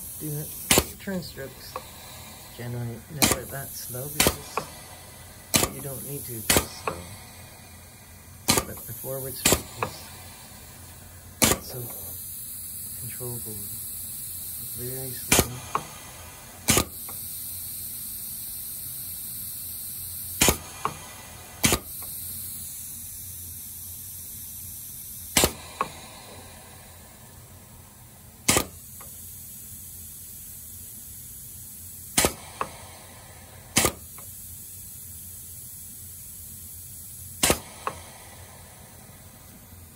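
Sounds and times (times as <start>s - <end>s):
pneumatic actuator clacks: 0.0s - 18.6s, 19.5s - 23.3s, 23.9s - 27.7s, 28.4s - 30.2s, 32.0s - 35.2s, 37.0s - 39.9s
compressed air hissing: 0.0s - 39.9s.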